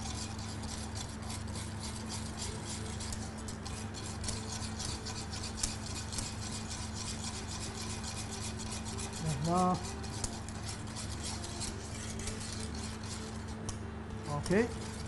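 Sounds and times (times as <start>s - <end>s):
whisk scraping against pot: 0.0s - 15.0s.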